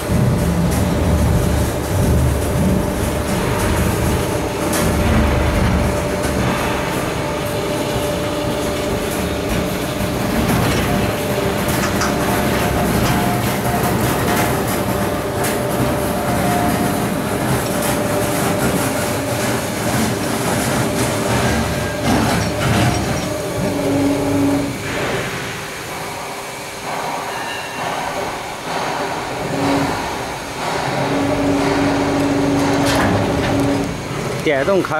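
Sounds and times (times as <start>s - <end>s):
steady machine hum: 0.0s - 34.9s.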